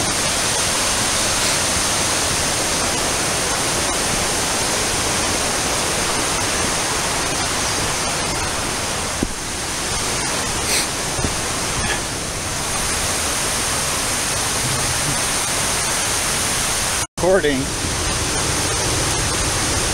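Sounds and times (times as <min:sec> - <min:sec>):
creek water rushing: 0:00.0 - 0:19.9.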